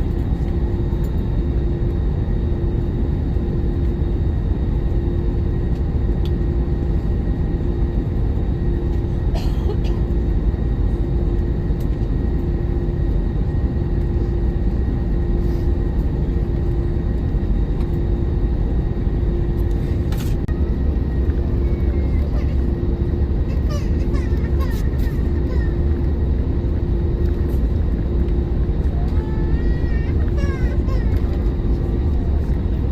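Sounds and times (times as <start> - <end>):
aircraft cabin engine rumble: 0.0 - 32.9.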